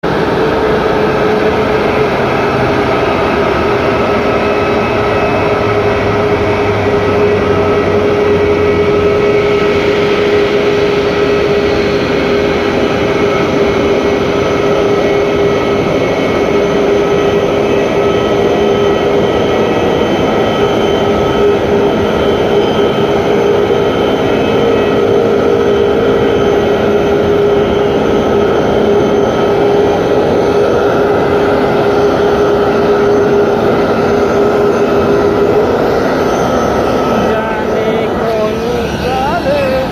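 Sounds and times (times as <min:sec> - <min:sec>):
constant whine: 0:00.0 - 0:39.9
vehicle running noise: 0:00.0 - 0:39.9.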